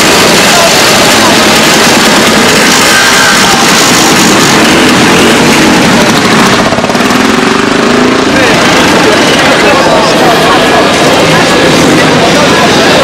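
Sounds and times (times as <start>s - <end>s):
motorcycle engines roaring: 0.0s - 13.0s.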